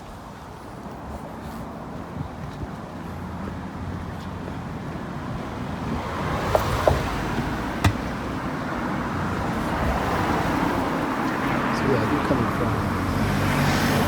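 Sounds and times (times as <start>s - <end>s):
road traffic rush: 0.0s - 14.0s.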